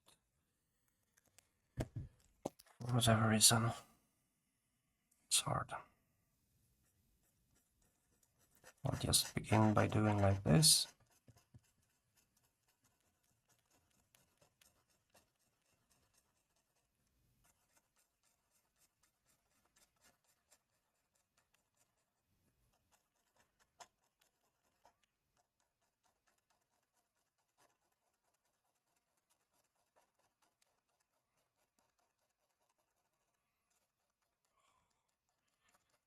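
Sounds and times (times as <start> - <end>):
pencil drawing strokes: 6.8 - 36.0.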